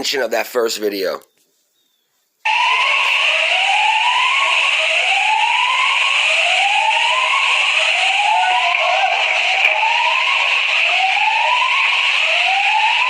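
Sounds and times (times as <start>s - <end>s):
alarms wailing: 2.5s - 13.0s.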